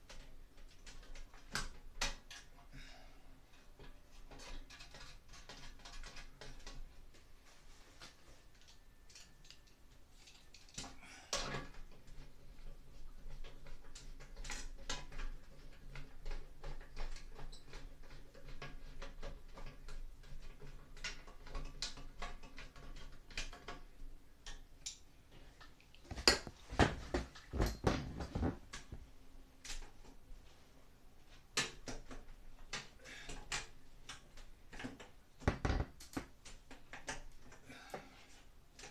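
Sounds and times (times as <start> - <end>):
clicks and knocks of parts handled: 0.0 - 2.7, 3.5 - 7.3, 8.0 - 30.2, 31.3 - 38.9.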